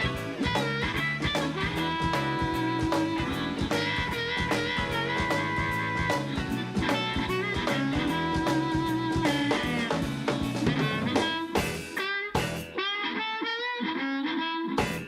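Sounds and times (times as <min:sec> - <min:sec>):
blues band playing: 0:00.0 - 0:15.0
lead guitar line: 0:00.0 - 0:15.0.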